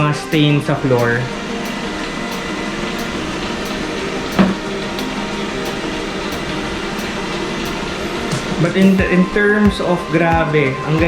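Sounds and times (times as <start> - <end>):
robot vacuum whirring: 0.0 - 11.0.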